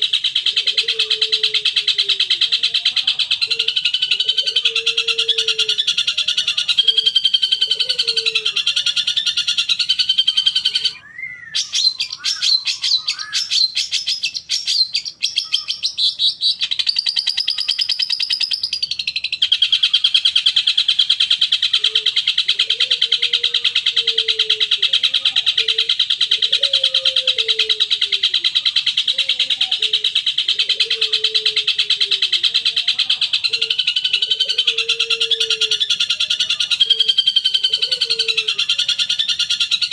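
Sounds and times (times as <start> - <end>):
bird chattering trills: 0.0 - 39.9
bird chirps: 0.0 - 39.9.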